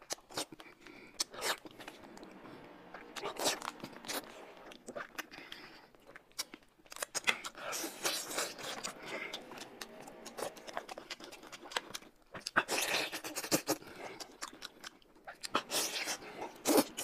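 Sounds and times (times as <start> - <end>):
biting and chewing food: 0.0 - 17.0.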